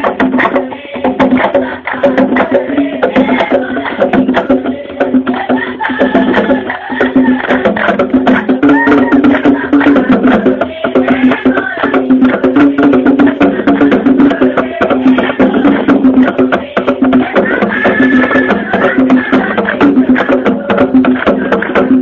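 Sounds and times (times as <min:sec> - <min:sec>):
drum and wood-block strikes: 0:00.0 - 0:22.0
voices singing: 0:00.0 - 0:22.0.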